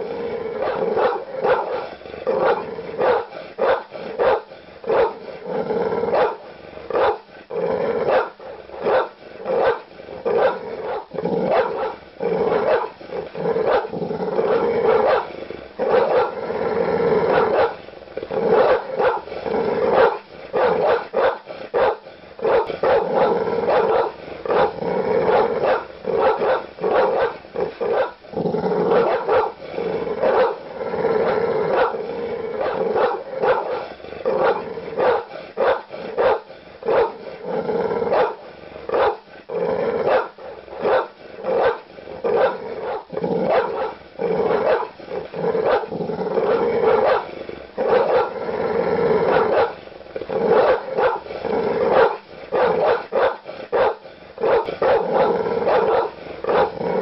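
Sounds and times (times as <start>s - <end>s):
dogs growling: 0.0s - 57.0s
large dogs barking aggressively: 0.0s - 57.0s.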